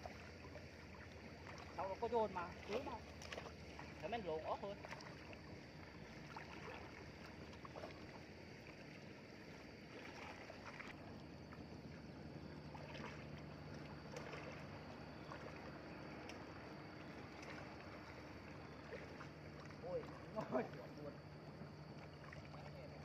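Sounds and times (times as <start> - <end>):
light splashes: 0.0 - 23.0
pond water sloshing: 0.0 - 23.0.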